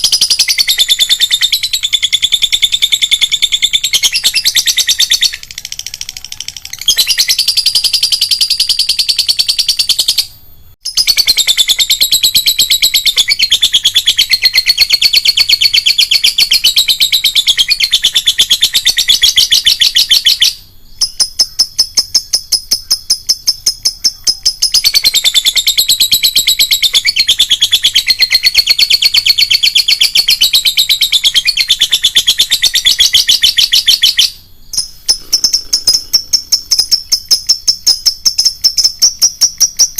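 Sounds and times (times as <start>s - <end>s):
bird high trill: 0.0s - 39.9s
lovebird chattering song: 0.0s - 39.9s.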